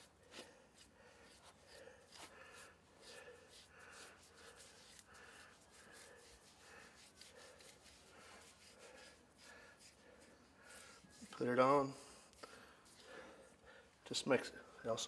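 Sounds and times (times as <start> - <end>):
dauber rubbing on hoof: 0.0 - 13.6.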